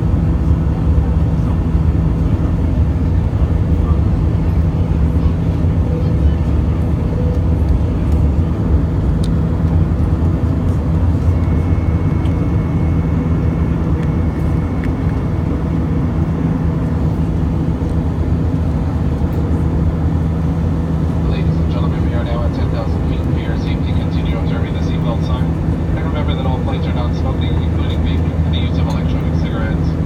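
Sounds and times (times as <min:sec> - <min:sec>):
jet engines droning in cabin: 0:00.0 - 0:30.0.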